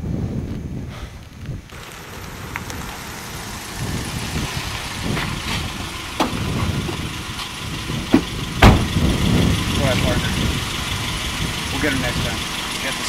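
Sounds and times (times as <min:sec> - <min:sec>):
pickup truck engine running: 0:01.7 - 0:13.0.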